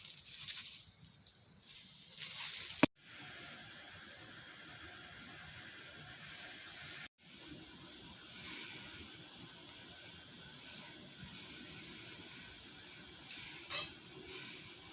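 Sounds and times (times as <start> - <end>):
food sizzling in a pan: 2.6 - 14.9.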